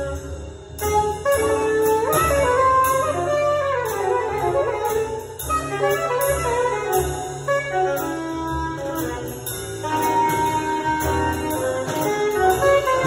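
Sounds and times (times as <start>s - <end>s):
piano: 0.0s - 13.0s
saxophones: 0.0s - 13.0s
upright bass: 0.0s - 13.0s.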